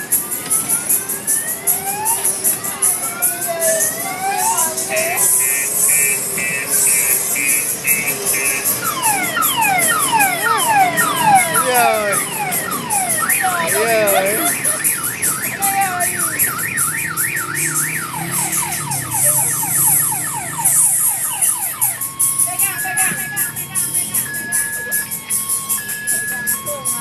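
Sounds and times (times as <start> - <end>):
electronic car alarm siren: 0.0 - 27.0.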